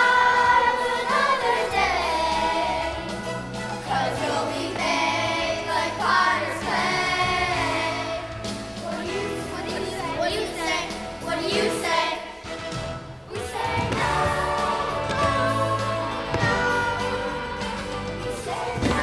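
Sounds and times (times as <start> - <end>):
choir singing: 0.0 - 19.0
musical accompaniment: 0.0 - 19.0.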